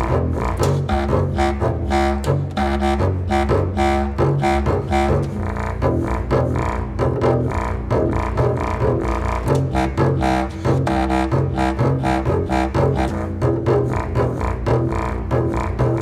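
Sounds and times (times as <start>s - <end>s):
contrabass clarinet: 0.0s - 16.0s
double bass: 0.0s - 16.0s.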